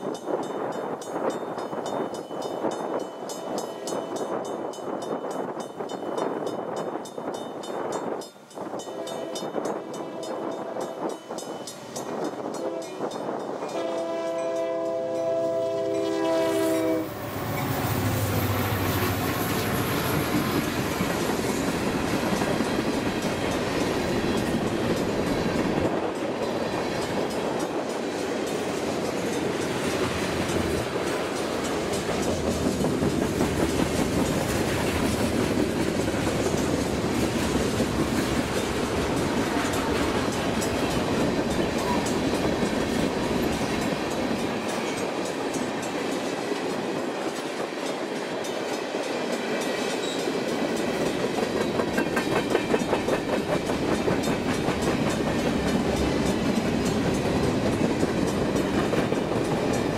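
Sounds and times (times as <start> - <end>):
train wheels clattering on rails: 0.0 - 15.5, 17.0 - 59.9.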